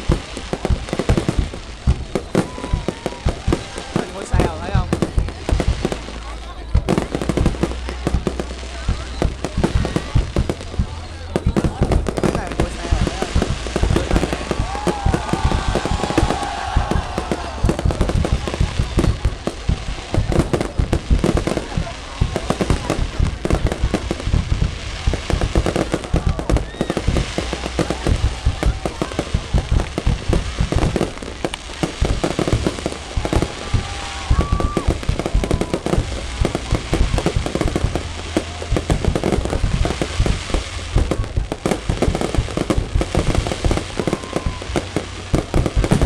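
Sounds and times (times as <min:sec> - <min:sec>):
fireworks booming and crackling: 0:00.0 - 0:46.0.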